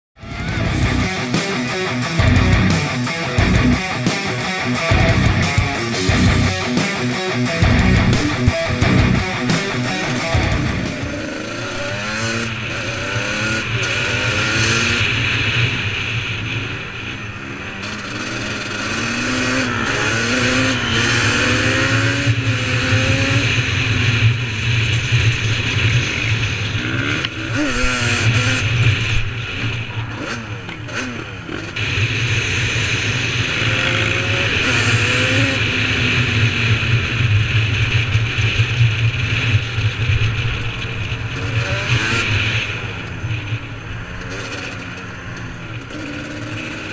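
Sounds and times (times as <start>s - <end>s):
quad bike engine revving: 0.2s - 46.9s.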